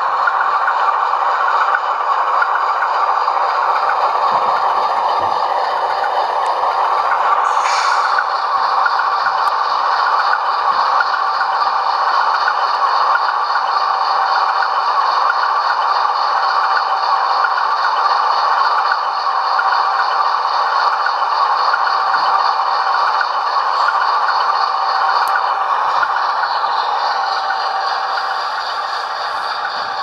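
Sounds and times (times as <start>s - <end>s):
diesel engine idling through small speaker: 0.0s - 30.0s.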